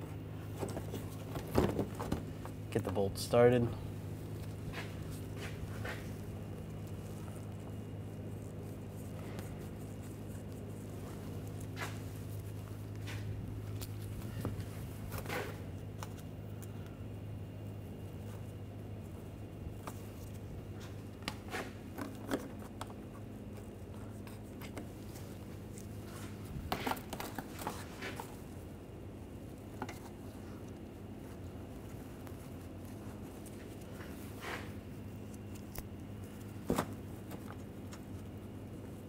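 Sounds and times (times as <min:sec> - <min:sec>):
steady low hum: 0:00.0 - 0:39.0
light clicks and glove rubbing: 0:02.2 - 0:39.0.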